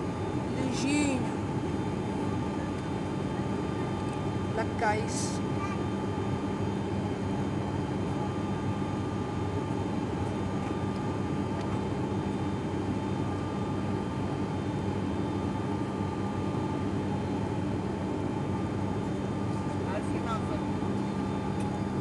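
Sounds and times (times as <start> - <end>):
turboprop cabin drone: 0.0 - 22.0.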